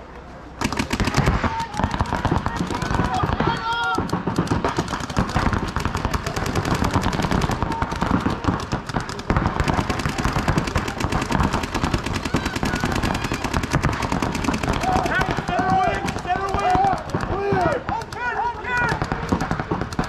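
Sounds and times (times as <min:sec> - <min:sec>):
paintball markers firing rapidly: 0:00.6 - 0:20.0.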